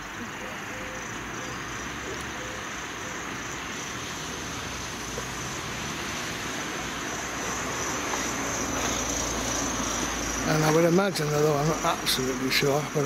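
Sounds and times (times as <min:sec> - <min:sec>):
steady rushing ambient noise: 0:00.0 - 0:13.0.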